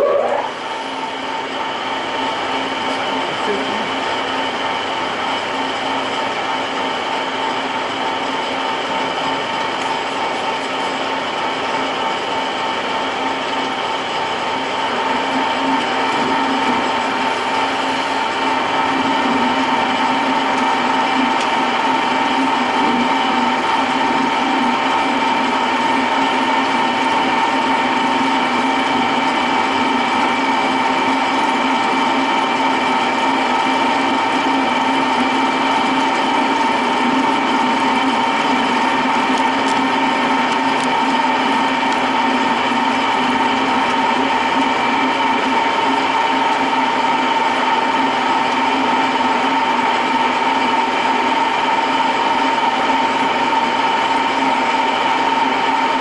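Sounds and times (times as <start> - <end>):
machine tool humming with whine: 0.0 - 56.0.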